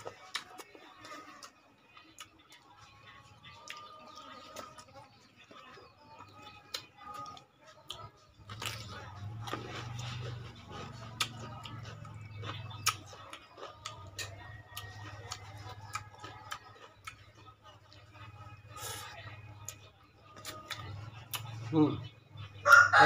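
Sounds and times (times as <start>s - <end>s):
chewing sounds: 0.0s - 22.5s.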